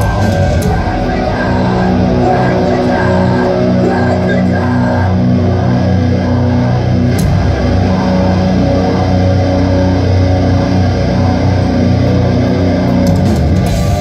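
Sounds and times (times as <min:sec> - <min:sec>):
distorted guitars and bass chords: 0:00.0 - 0:14.0
metalcore band playing live: 0:00.0 - 0:14.0.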